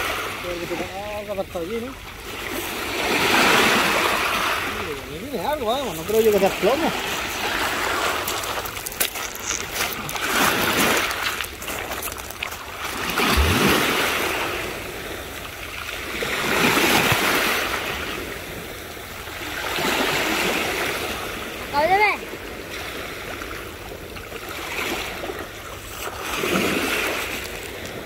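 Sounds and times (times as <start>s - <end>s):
sea water washing around kayak: 0.0s - 28.0s.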